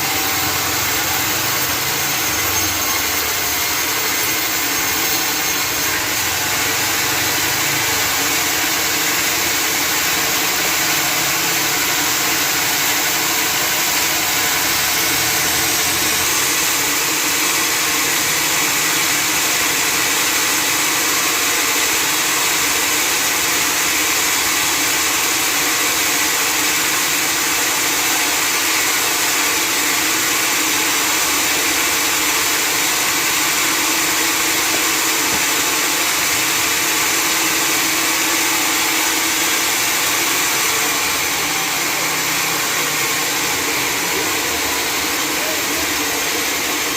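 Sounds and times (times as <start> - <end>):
sawmill machine drone: 0.0 - 46.9.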